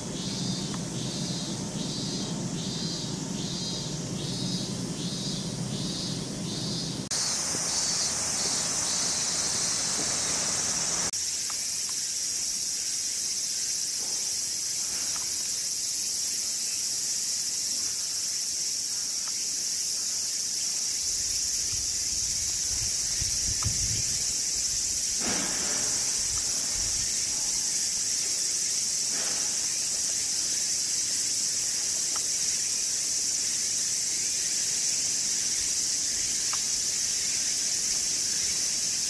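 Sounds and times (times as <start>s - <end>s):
insects buzzing: 0.0s - 39.0s
pulsing insect call: 0.0s - 39.0s.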